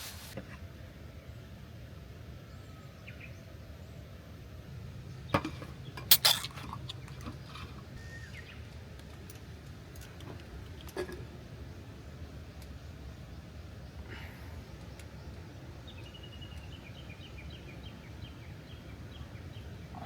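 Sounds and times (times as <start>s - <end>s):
low outdoor background noise: 0.0s - 20.0s.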